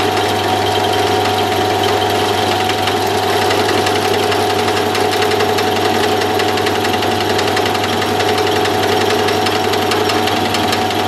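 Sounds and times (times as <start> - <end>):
end mill cutting chatter: 0.0 - 11.0
milling machine motor hum: 0.0 - 11.0.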